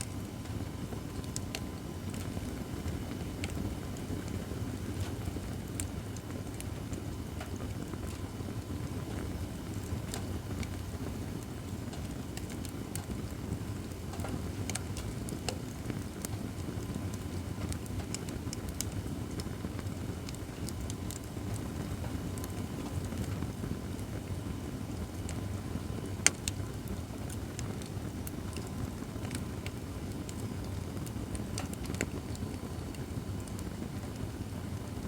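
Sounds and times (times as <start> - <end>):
campfire crackling and popping: 0.0 - 35.0
steady low fire noise: 0.0 - 35.0.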